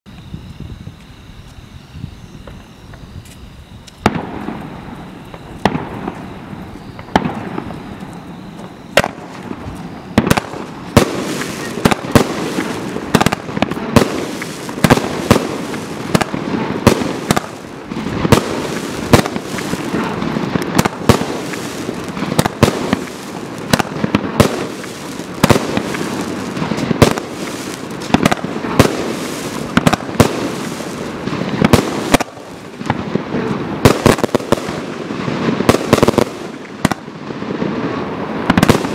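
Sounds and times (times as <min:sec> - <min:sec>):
firework crackling: 0:00.2 - 0:38.9
firework bangs: 0:03.2 - 0:38.9.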